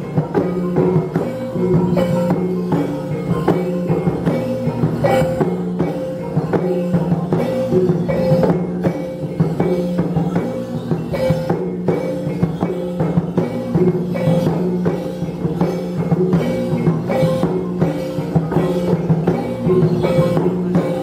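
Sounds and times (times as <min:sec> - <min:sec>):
gong ensemble music with drum: 0:00.0 - 0:21.0.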